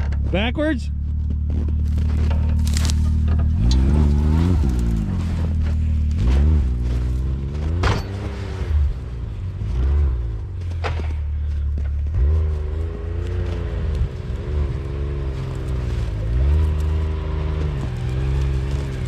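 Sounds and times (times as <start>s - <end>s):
engine revving under load: 0.9s - 19.0s.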